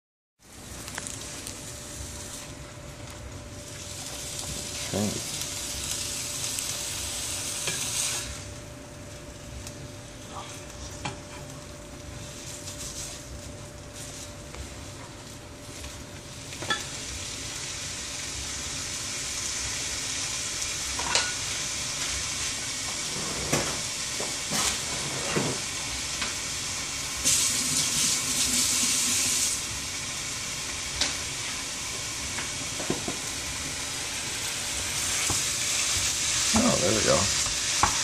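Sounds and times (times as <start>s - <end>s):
meat sizzling in a frying pan: 0.4s - 38.0s.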